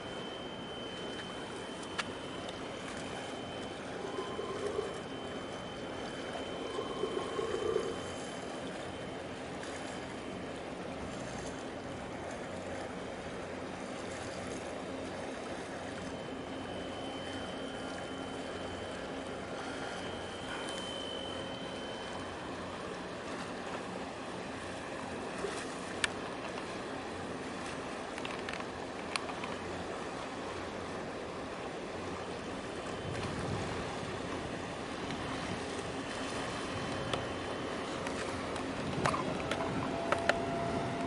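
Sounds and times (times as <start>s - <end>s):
faint steady high tone: 0.0s - 11.8s, 14.7s - 27.4s, 30.5s - 41.0s
water washing from passing ship: 0.0s - 41.0s.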